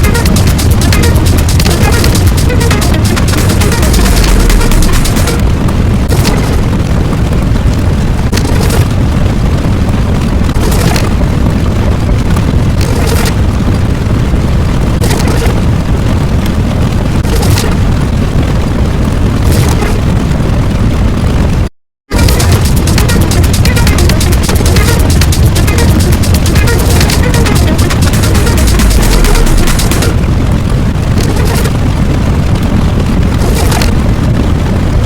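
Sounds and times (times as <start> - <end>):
deep explosion rumble: 0.0 - 35.0.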